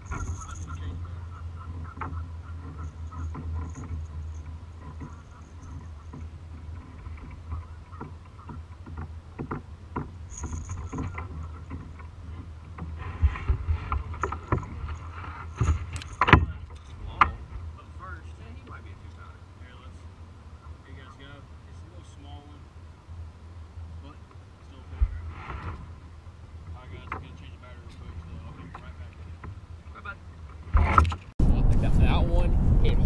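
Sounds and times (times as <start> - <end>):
water and wind against kayak hull: 0.0 - 32.9.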